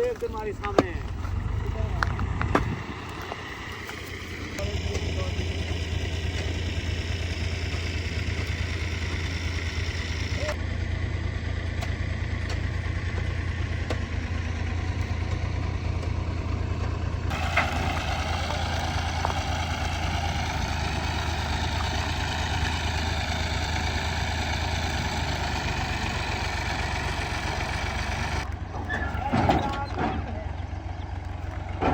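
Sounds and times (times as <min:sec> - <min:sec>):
farm machinery engine humming: 0:00.0 - 0:31.9.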